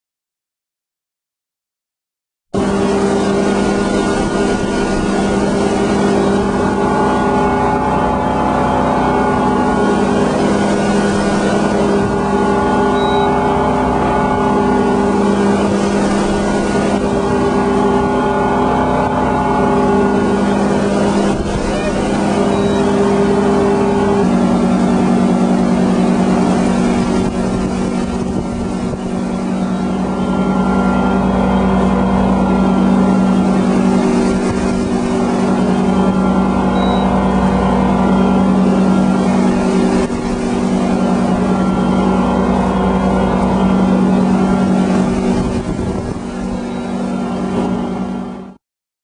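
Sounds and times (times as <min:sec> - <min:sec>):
boat engine droning: 0:02.6 - 0:48.6.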